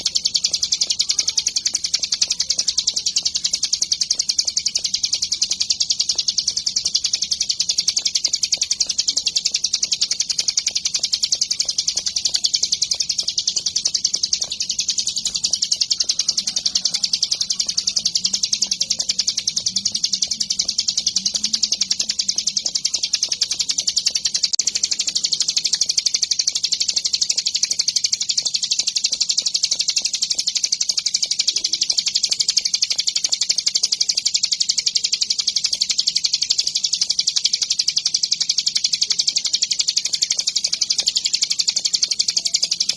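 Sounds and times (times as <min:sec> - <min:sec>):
songbird high-pitched trill: 0:00.0 - 0:42.9.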